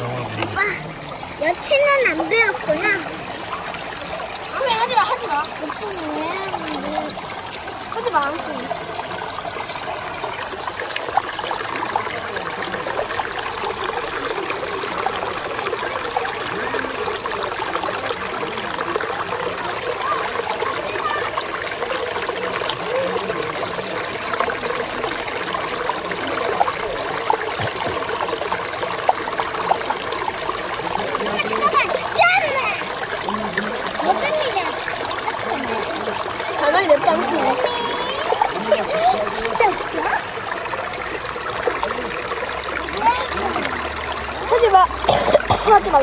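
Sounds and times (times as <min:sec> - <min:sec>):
stream trickling over stones: 0:00.0 - 0:46.0.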